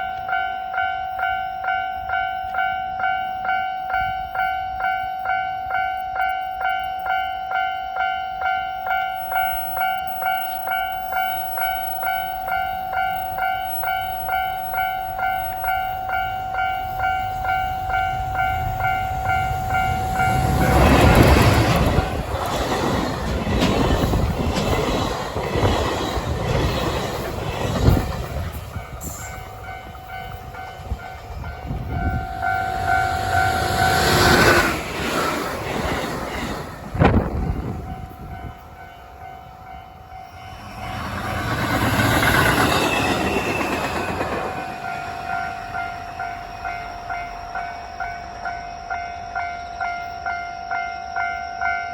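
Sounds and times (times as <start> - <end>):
level crossing warning bell: 0.0 - 25.0, 28.6 - 36.1, 37.2 - 51.9
train rushing over rails: 0.0 - 51.3.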